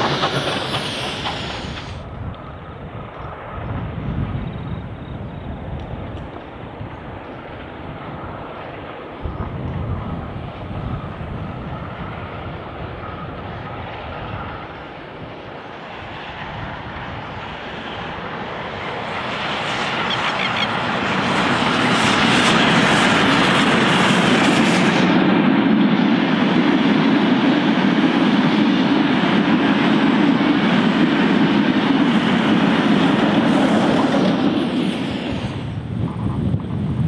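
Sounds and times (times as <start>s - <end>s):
steam train passing: 0.0s - 37.0s.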